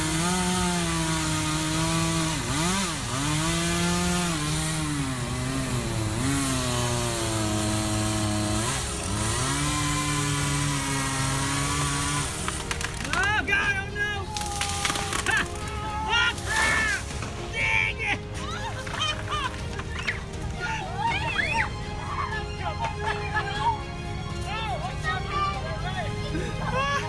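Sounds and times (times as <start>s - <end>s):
chainsaw cutting wood: 0.0s - 21.7s.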